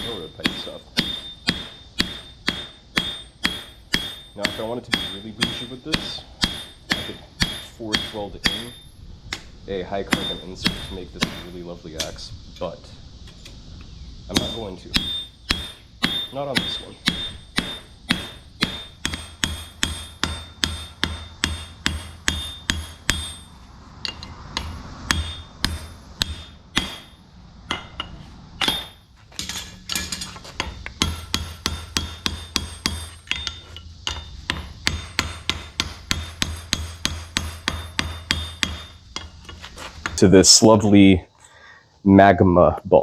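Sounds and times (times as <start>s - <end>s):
anvil ringing: 0.0s - 9.1s, 10.0s - 12.2s, 14.3s - 39.5s
hammer striking hot metal on anvil: 0.0s - 9.5s, 10.1s - 12.2s, 14.3s - 39.4s.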